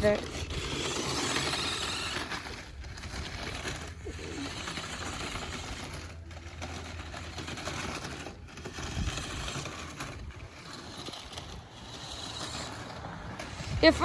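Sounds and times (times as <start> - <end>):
electric motor whining: 0.0 - 14.0
tyre noise: 0.0 - 14.0.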